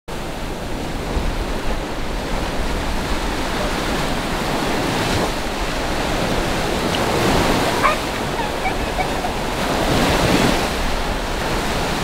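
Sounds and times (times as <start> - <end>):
small ocean waves breaking: 0.1 - 12.0.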